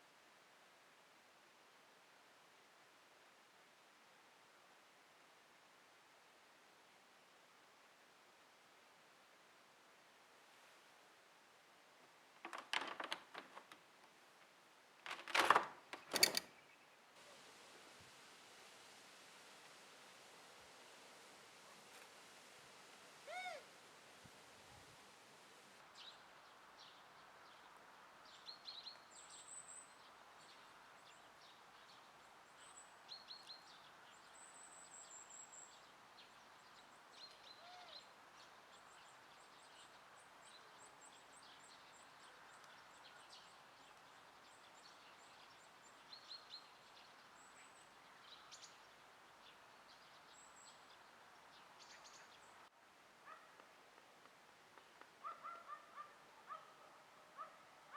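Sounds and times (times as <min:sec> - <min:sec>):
faint outdoor hiss: 0:00.0 - 0:57.9.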